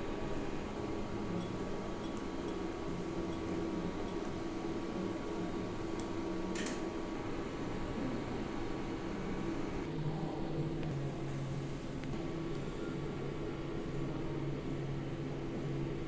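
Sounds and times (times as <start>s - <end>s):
mechanical room hum: 0.0s - 16.0s.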